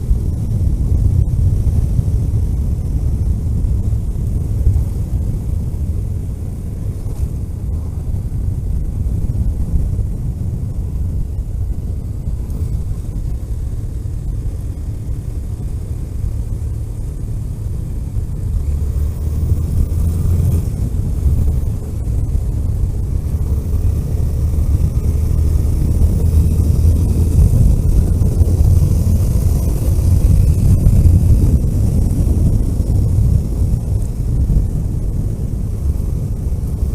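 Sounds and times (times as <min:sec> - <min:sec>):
vehicle engine and road rumble: 0:00.0 - 0:36.9
wind hiss: 0:00.0 - 0:36.9.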